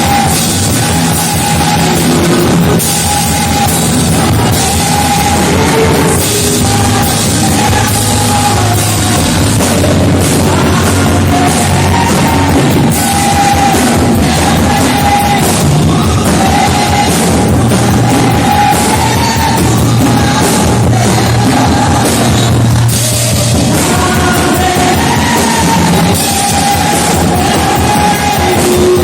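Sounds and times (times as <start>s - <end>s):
live rock band music: 0.0s - 29.0s
person singing: 0.0s - 29.0s.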